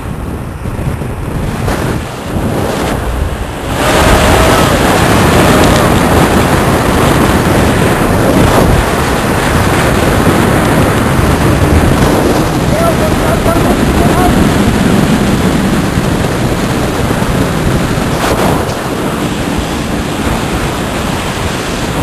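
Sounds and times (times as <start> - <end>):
wind buffeting microphone: 0.0 - 22.0
rushing water: 0.6 - 22.0.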